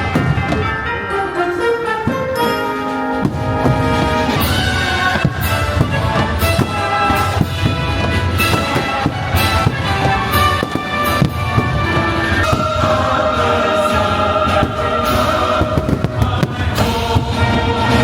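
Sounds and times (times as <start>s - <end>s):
fireworks bursting: 0.0s - 1.0s, 1.8s - 18.0s
music with sustained tones: 0.0s - 18.0s.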